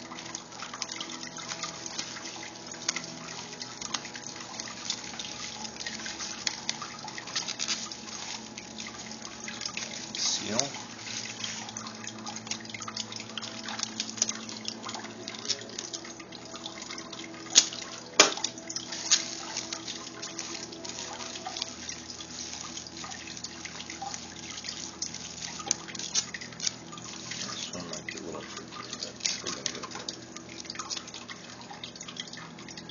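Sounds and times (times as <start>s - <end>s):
faint steady hum: 0.0s - 32.9s
plastic crinkling and crackling: 0.0s - 32.9s.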